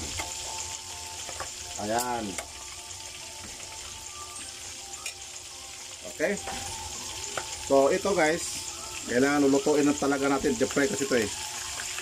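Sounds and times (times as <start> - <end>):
cooking oil sizzling with pops: 0.0 - 12.0.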